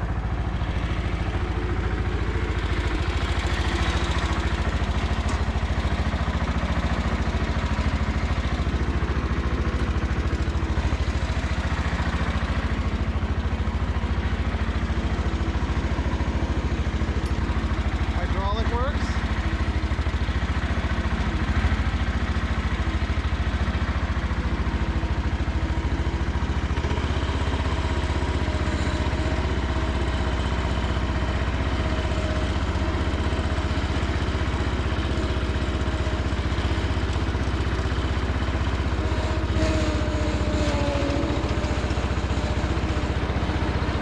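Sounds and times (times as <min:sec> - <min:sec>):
garden tractor engine running: 0:00.0 - 0:44.0.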